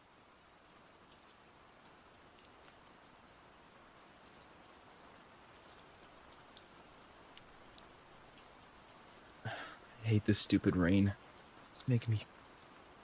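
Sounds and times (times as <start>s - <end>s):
soft steady rain: 0.0s - 13.0s.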